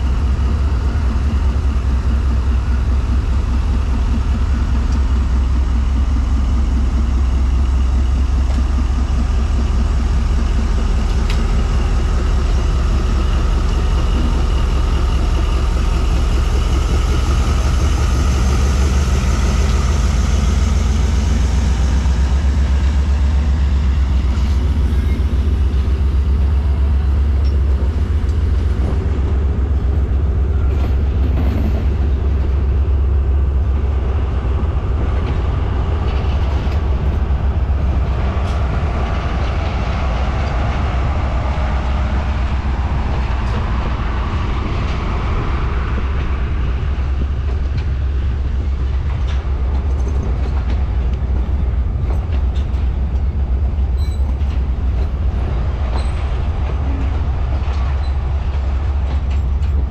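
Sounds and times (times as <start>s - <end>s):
coach wheels clicking over rail joints: 0.0s - 59.9s
diesel locomotive engine rumble: 0.0s - 59.9s.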